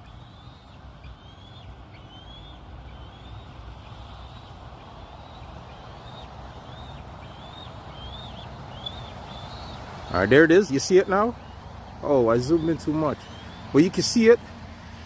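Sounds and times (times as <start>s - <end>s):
eagle piping chirps: 0.0s - 14.5s.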